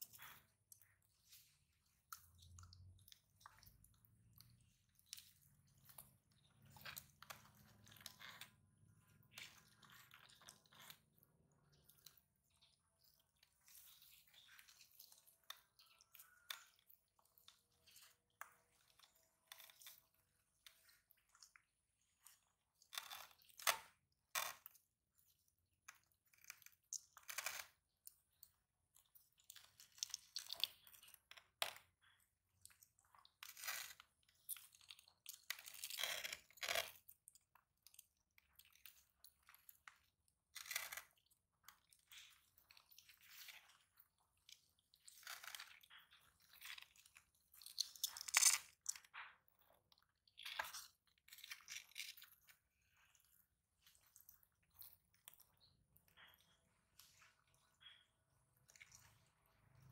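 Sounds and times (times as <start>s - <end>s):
tortoises chewing wet crunches: 0.0s - 24.5s, 26.5s - 59.9s.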